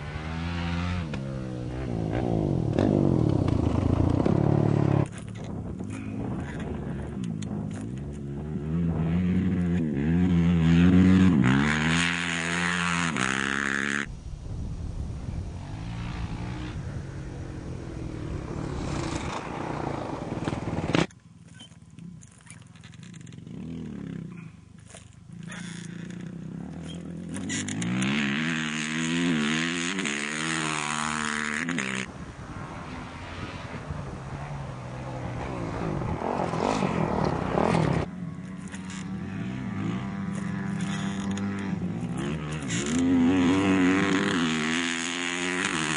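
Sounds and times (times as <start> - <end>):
motorbike engines revving past: 0.0 - 14.2, 15.0 - 45.9.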